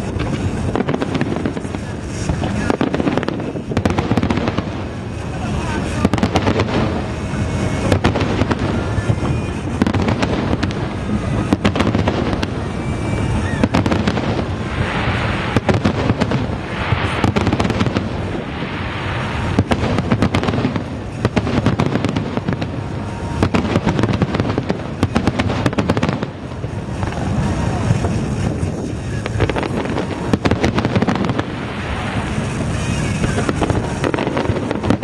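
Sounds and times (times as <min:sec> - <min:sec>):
firework shell bursts: 0:00.0 - 0:35.0
fireworks crackling: 0:00.0 - 0:35.0.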